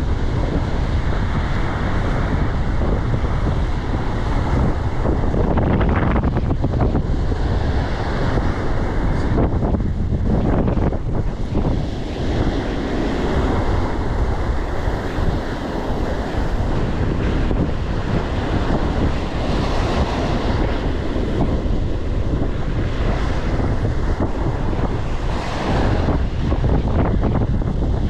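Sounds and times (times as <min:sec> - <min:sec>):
surf breaking on shore: 0:00.0 - 0:28.0
wind buffeting microphone: 0:00.0 - 0:28.0.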